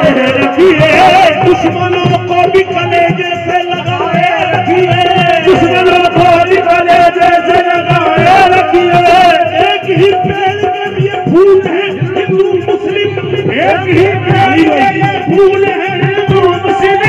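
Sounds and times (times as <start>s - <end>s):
hand drum beat: 0.0s - 17.0s
man singing: 0.0s - 17.0s.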